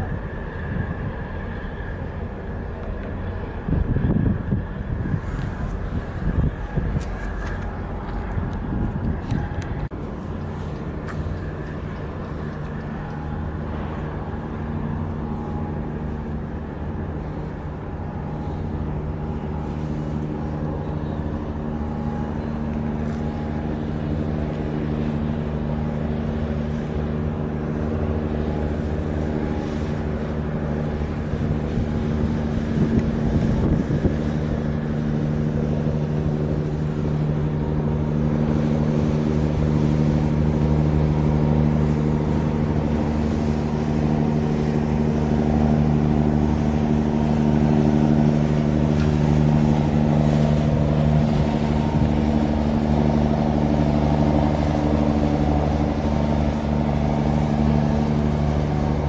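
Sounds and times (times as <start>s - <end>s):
ship machinery droning: 0.0s - 59.0s.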